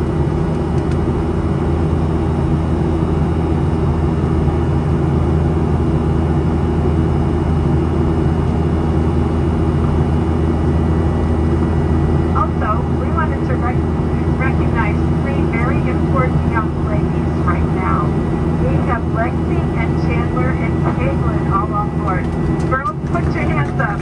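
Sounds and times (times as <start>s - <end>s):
airplane cabin engine drone: 0.0s - 24.0s
faint steady whine: 0.0s - 24.0s.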